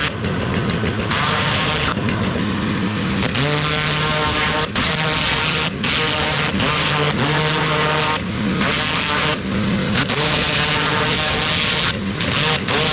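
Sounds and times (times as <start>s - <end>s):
pressure washer motor drone: 0.0s - 12.9s.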